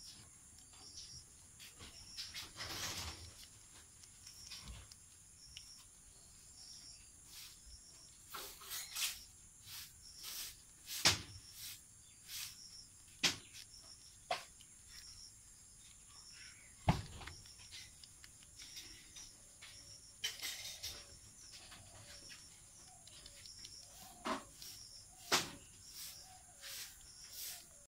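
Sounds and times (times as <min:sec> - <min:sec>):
faint high-pitched hiss: 0:00.0 - 0:27.9
rabbits biting grass: 0:00.6 - 0:06.0, 0:07.2 - 0:27.9.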